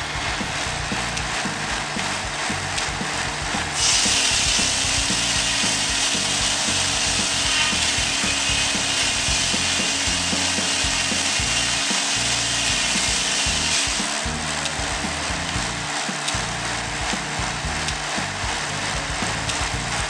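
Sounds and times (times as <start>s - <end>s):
saw blade cutting a log: 0.0s - 19.6s.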